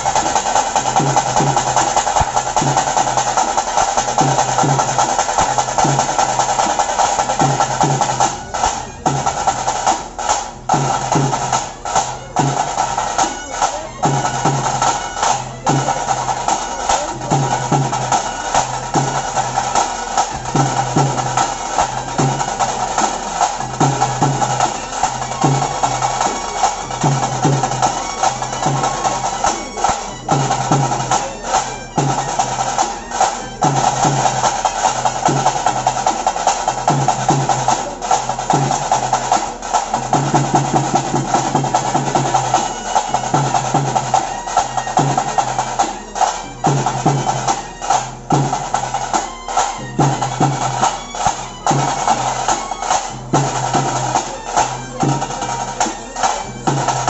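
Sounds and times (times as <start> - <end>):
drums beating rhythm: 0.0 - 57.0.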